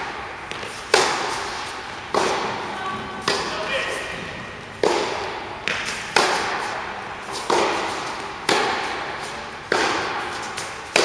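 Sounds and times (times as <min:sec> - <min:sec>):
tennis rackets striking ball: 0:00.0 - 0:11.0.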